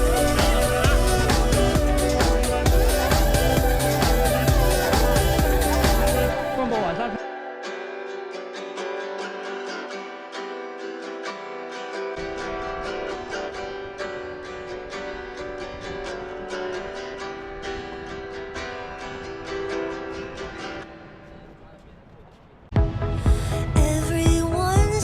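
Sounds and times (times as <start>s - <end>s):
strummed acoustic guitar music: 0.0s - 21.1s.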